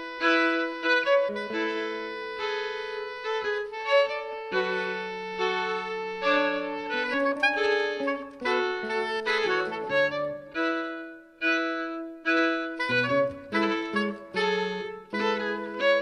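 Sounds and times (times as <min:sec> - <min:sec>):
folk ensemble held notes: 0:00.0 - 0:16.0
soprano saxophone melody: 0:00.0 - 0:16.0.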